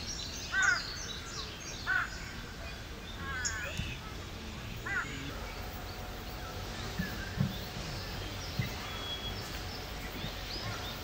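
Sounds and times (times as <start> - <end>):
birdsong: 0.0 - 11.0
low background noise: 0.0 - 11.0.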